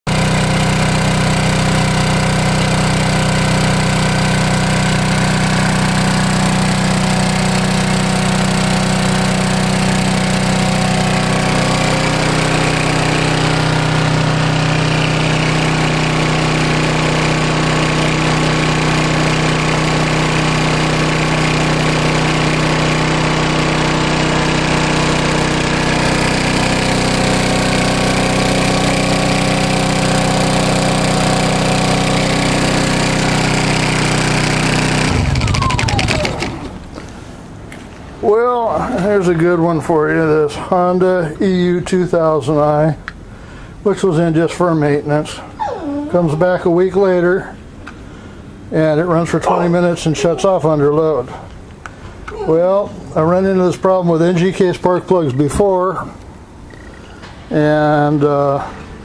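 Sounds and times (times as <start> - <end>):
generator engine running: 0.1 - 59.0.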